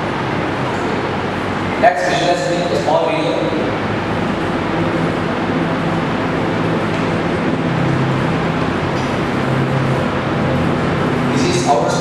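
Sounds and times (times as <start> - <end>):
loud rushing noise: 0.0 - 12.0
low hum: 0.0 - 12.0.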